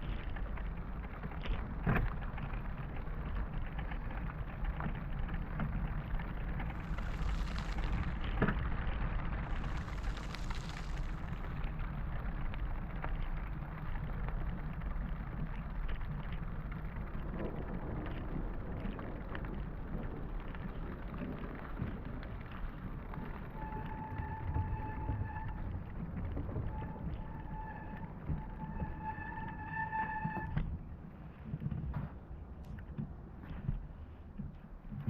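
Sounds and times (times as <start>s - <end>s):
heavy rain falling: 0.0s - 31.6s
deep rumble: 0.0s - 35.0s.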